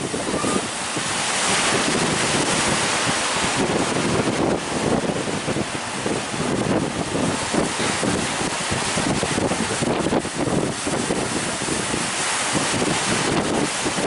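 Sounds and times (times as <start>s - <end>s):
sea surf waves breaking: 0.0s - 14.0s
wind buffeting microphone: 0.0s - 14.0s.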